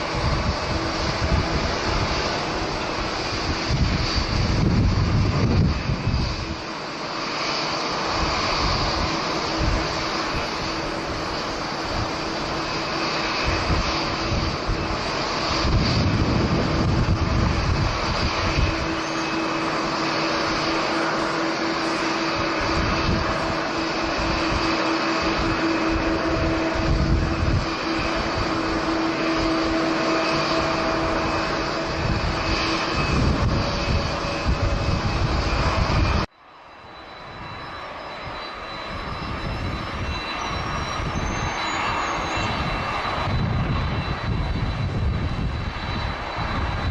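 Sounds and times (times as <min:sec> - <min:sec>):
wind buffeting microphone: 0:00.0 - 0:36.3, 0:37.2 - 0:46.9
high whine rising in pitch: 0:00.0 - 0:46.9
jet engines running: 0:00.0 - 0:46.9.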